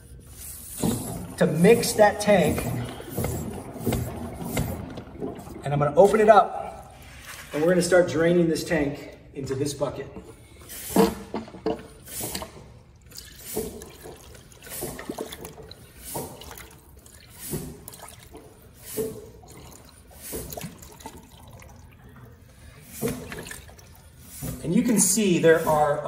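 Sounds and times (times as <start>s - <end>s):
water sputtering from a hose: 0.2s - 7.3s, 10.7s - 26.0s.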